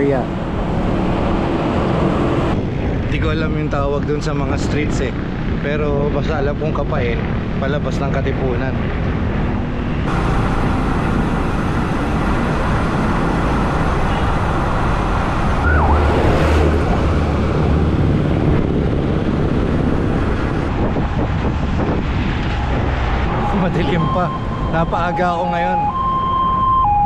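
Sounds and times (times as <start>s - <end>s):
vehicle passing with low rumble: 0.0s - 26.9s
road and traffic noise: 0.0s - 27.0s.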